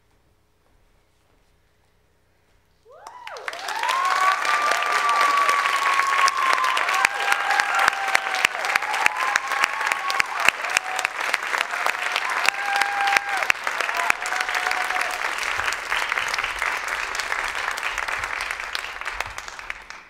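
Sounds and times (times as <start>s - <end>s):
people whooping and cheering: 2.8s - 20.0s
audience applause: 2.9s - 20.0s.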